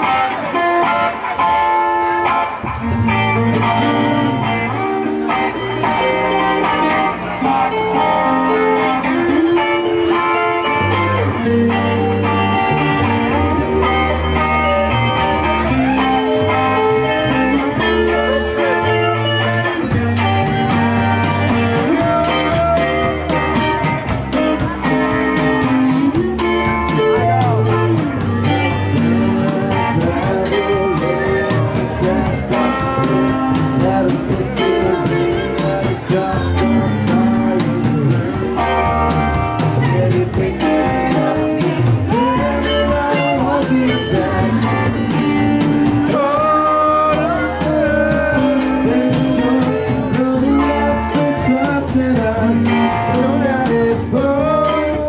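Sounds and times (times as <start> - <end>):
bass: 0.0 - 55.0
drum kit: 0.0 - 55.0
electric guitars: 0.0 - 55.0
person singing lead vocal: 2.3 - 55.0.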